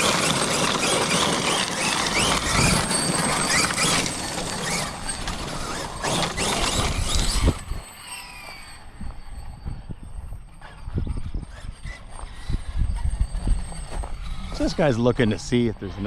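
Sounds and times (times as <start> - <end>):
electric rc truck whine: 0.0 - 16.0
tyres on rough ground: 0.0 - 16.0.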